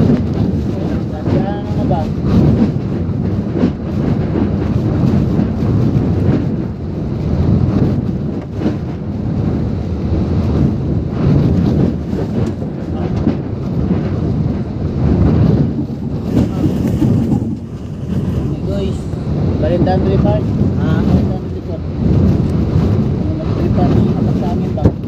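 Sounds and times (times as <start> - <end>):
gusting wind: 0.0 - 25.0
heavy rain: 0.0 - 25.0
wind rumbling on microphone: 0.0 - 25.0.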